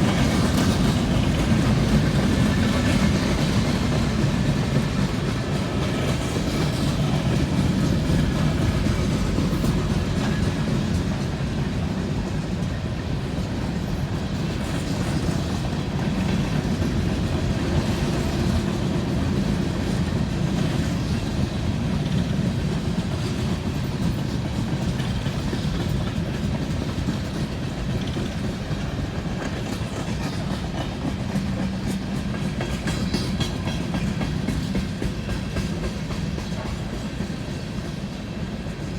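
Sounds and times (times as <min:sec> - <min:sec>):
freight train rumbling past: 0:00.0 - 0:38.9
wheels clicking over rail joints: 0:00.0 - 0:38.9.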